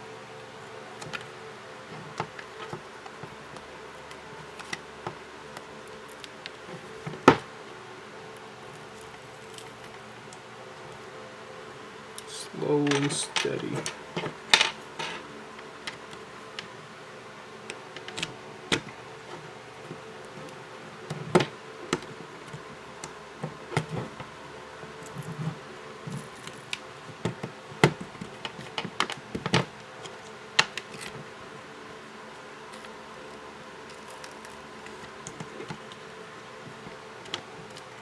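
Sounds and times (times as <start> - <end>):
steady buzzing hum: 0.0 - 38.0.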